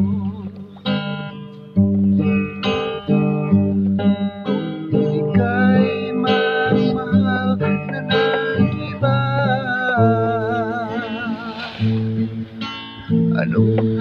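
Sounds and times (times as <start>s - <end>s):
low bass notes: 0.0s - 14.0s
plucked guitar music: 0.0s - 14.0s.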